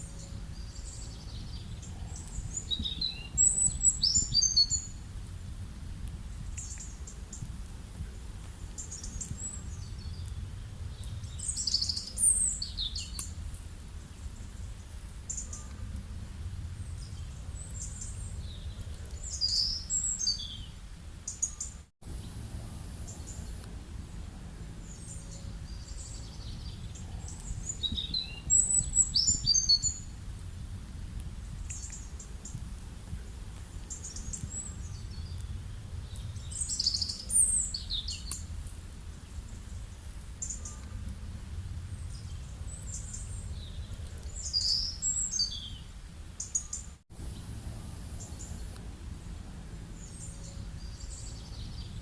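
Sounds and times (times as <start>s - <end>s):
birds chirping: 0.0s - 5.0s, 8.5s - 13.4s, 14.0s - 30.2s, 33.6s - 38.5s, 39.1s - 52.0s
low background rumble: 0.0s - 52.0s.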